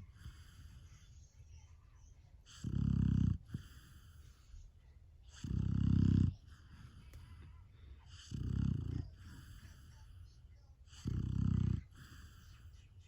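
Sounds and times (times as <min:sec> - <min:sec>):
puppy snoring: 0:00.0 - 0:01.2, 0:02.4 - 0:04.6, 0:05.2 - 0:12.8.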